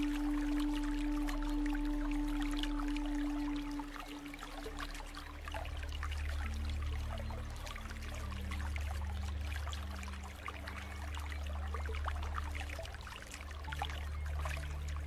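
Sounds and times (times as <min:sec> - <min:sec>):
stream splashing over rocks: 0:00.0 - 0:15.0.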